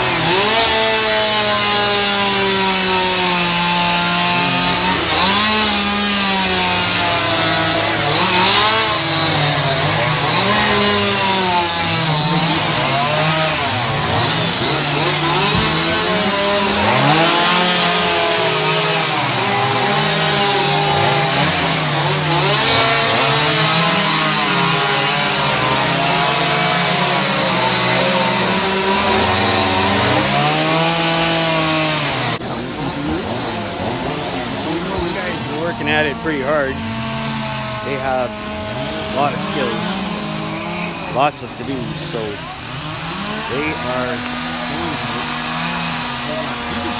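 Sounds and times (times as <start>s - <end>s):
chainsaws cutting wood: 0.0s - 46.9s.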